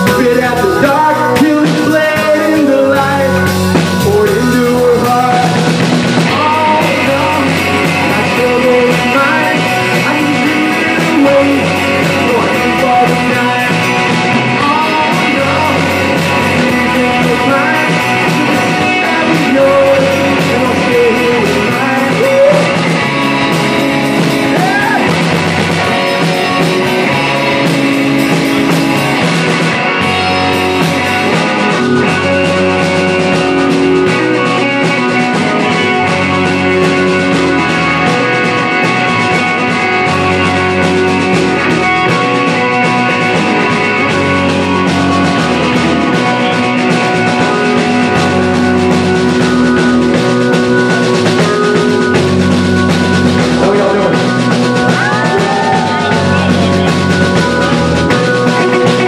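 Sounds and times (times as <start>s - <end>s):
drum kit: 0.0s - 59.0s
electric bass: 0.0s - 59.0s
electric guitars: 0.0s - 59.0s
keyboard: 0.0s - 59.0s.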